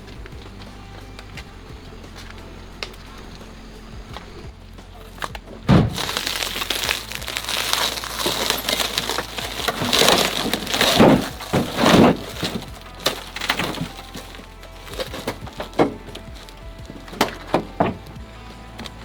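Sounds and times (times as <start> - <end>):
brittle material crunching: 0.0 - 19.0.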